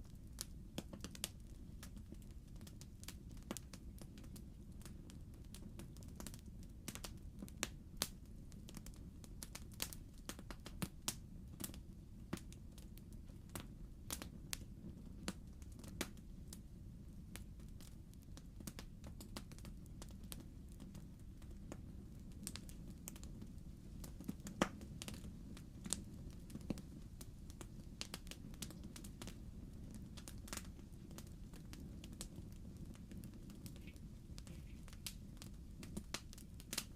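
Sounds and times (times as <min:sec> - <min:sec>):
logs crackling in a fireplace: 0:00.0 - 0:36.9
low rush of fire: 0:00.0 - 0:36.9.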